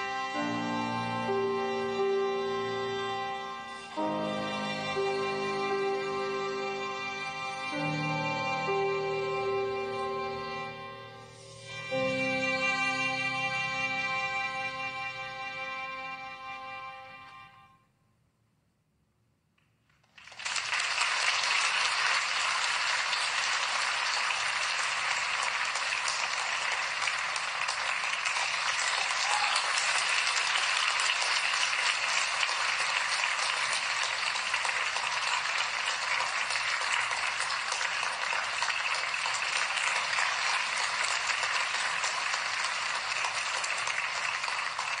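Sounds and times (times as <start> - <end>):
audience applauding: 0.0 - 16.0, 20.0 - 45.0.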